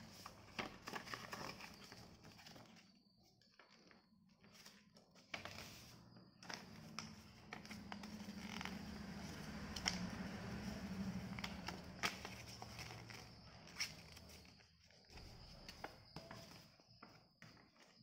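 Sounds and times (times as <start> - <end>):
paper folding and crinkling: 0.0 - 2.9, 3.6 - 18.0.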